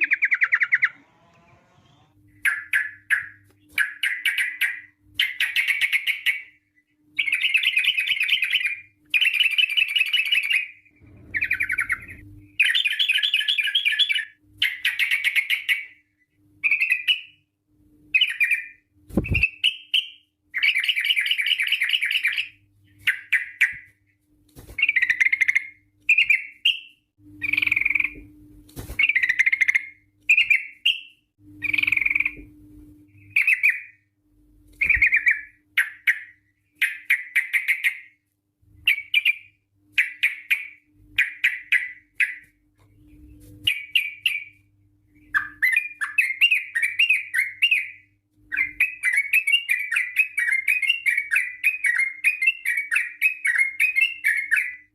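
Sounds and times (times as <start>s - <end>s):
bird warbling song: 0.0s - 16.0s, 16.6s - 17.4s, 18.1s - 23.9s, 24.8s - 28.3s, 29.0s - 32.5s, 33.2s - 34.0s, 34.8s - 38.2s, 38.8s - 54.9s.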